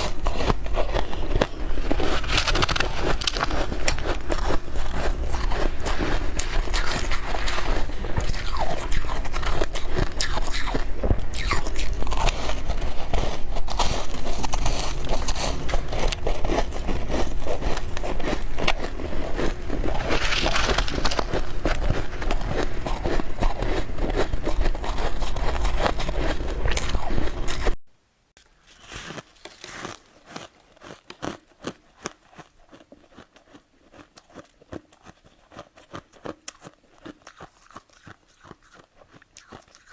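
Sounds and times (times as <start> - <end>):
crunching of bitten ice: 0.0 - 27.8, 28.6 - 39.9.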